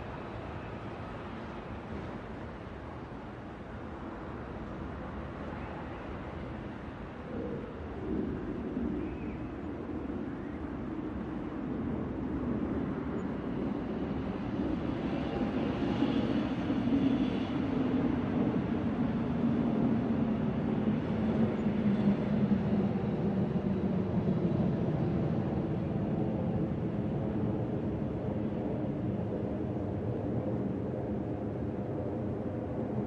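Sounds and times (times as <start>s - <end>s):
steady city rumble: 0.0s - 33.0s.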